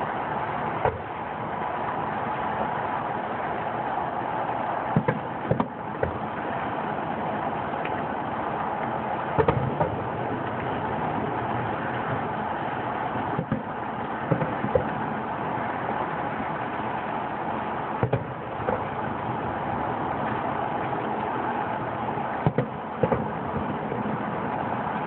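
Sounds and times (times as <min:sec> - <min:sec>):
steady noisy background: 0:00.0 - 0:25.0
distant fireworks bangs: 0:00.1 - 0:03.0, 0:03.8 - 0:16.7, 0:17.6 - 0:24.9.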